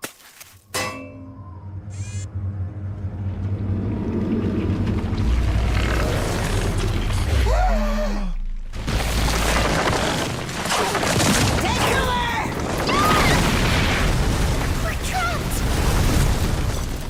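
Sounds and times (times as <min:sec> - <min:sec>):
deep rumbling and booming effects: 0:01.3 - 0:17.0.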